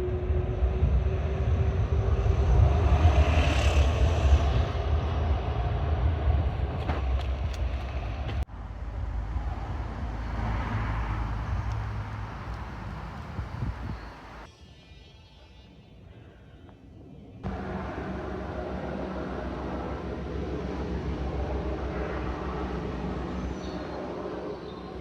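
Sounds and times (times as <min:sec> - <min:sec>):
vehicles passing: 0:00.0 - 0:14.5, 0:17.4 - 0:25.0.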